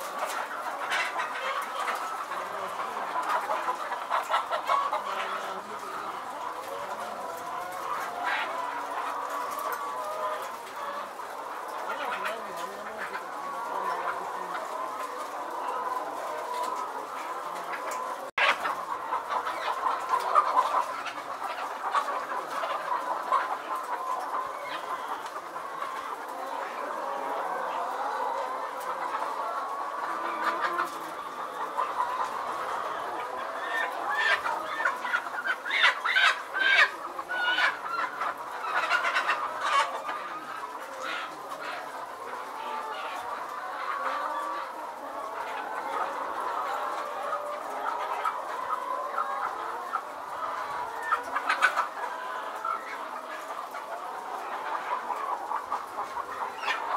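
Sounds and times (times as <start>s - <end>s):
chickens clucking: 0.0s - 56.9s
chickens squawking: 0.0s - 56.9s.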